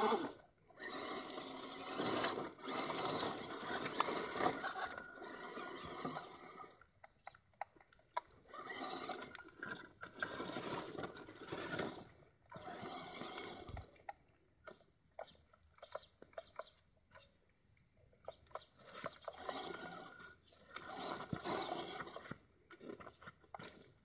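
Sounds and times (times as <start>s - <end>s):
rc truck motors whirring: 0.0s - 7.4s, 8.2s - 17.4s, 18.2s - 23.9s.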